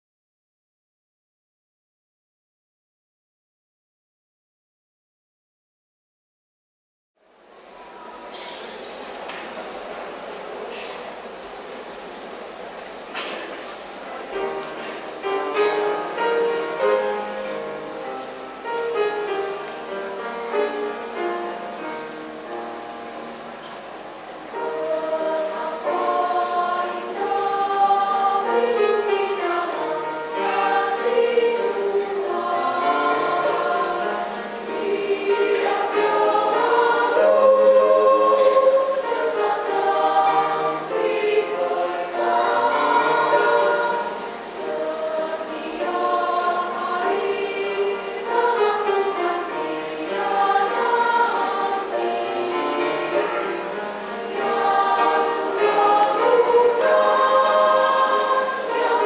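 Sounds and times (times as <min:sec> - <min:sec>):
children's choir singing: 0:07.3 - 0:59.0.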